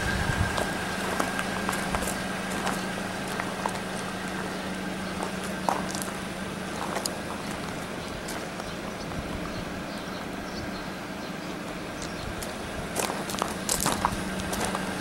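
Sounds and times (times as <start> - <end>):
footsteps on gravel: 0.4 - 10.3, 11.7 - 15.0.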